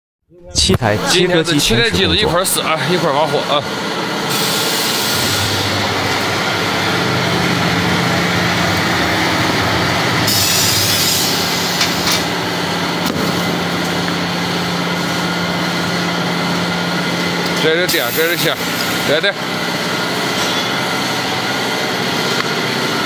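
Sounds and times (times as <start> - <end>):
tyre cutting machine motor hum: 2.0 - 23.0.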